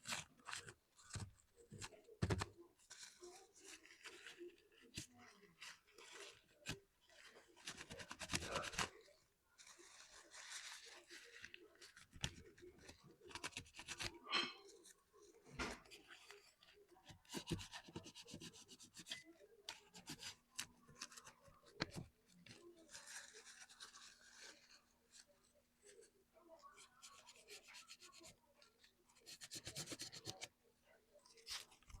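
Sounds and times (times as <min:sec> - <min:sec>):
rubbing and scraping handwork: 0:00.0 - 0:09.0, 0:09.6 - 0:15.0, 0:15.9 - 0:30.5.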